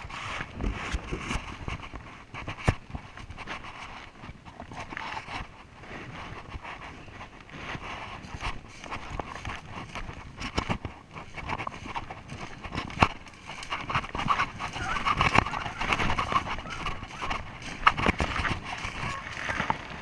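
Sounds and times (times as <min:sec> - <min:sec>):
footsteps in wet leaves and mud: 0:00.0 - 0:20.0.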